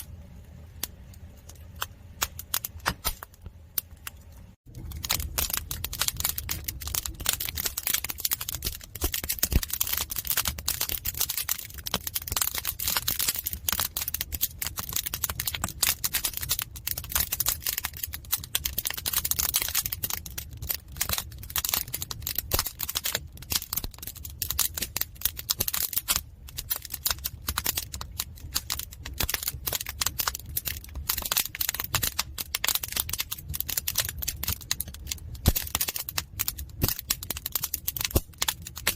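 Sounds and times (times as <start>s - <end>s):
firewood crackling and popping: 0.0s - 38.9s
low fire rumble: 0.0s - 38.9s.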